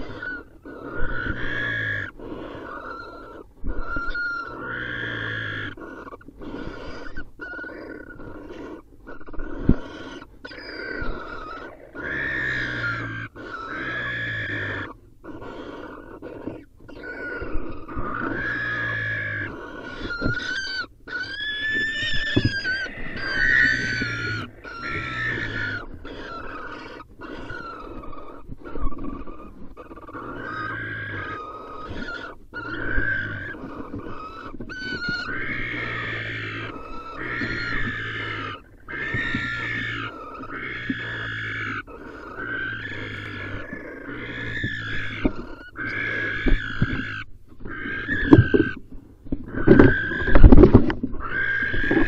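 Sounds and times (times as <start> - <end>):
barn owls calling: 0.0 - 52.0.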